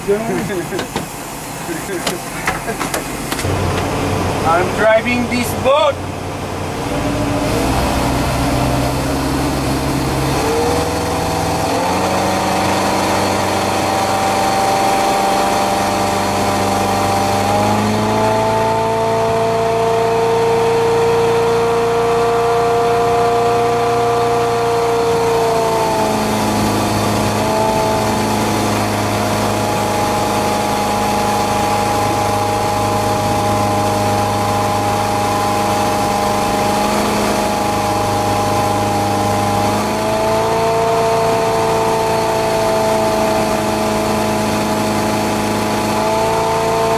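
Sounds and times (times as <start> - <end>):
boat engine running: 0.0 - 46.9.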